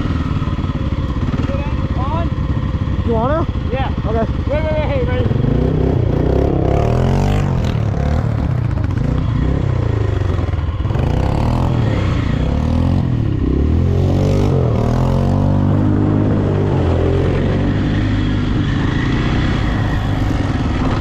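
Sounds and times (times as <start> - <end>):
vehicle engine revving: 4.1 - 21.0.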